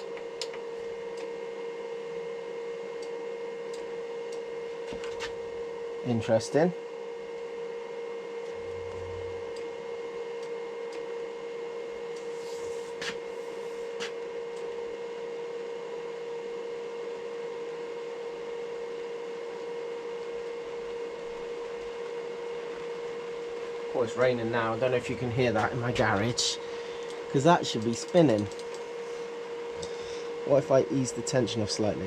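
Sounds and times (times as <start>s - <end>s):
welder humming with whine: 0.0s - 32.0s.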